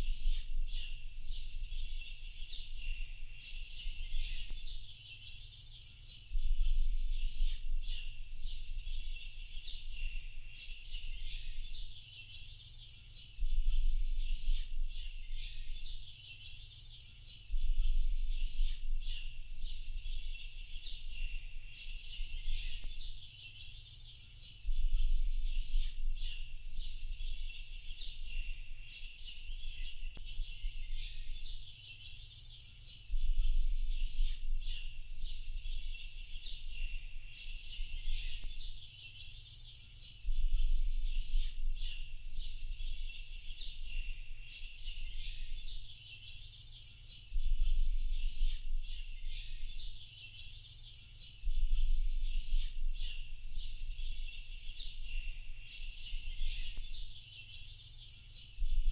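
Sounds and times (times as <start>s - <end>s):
birds chirping and calling: 0.0s - 58.9s.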